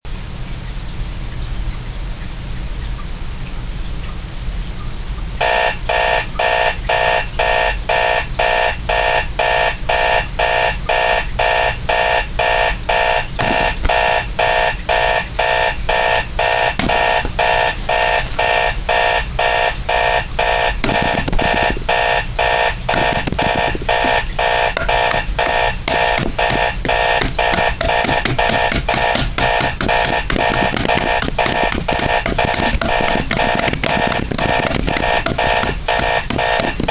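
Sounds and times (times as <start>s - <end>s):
alarm clock buzzing beep: 5.4s - 36.9s.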